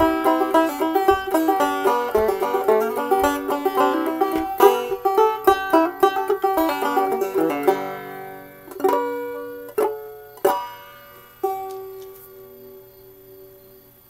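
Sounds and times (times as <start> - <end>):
banjo picking: 0.0 - 12.8
banjo strums ringing: 0.0 - 12.8.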